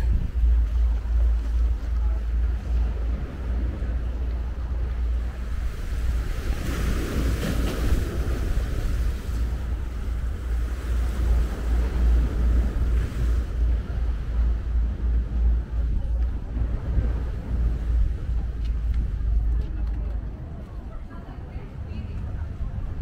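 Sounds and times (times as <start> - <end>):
sea surf washing ashore: 0.0 - 23.0
wind buffeting microphone: 0.0 - 23.0.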